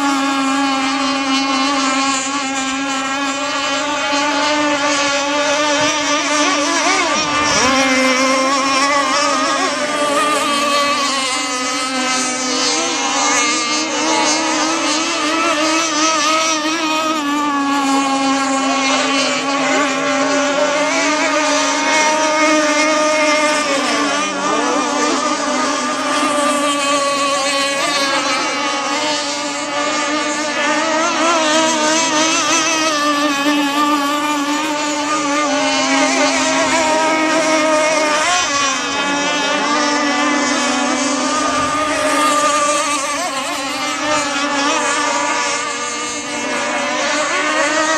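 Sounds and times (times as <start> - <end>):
model boat engines buzzing: 0.0 - 47.9.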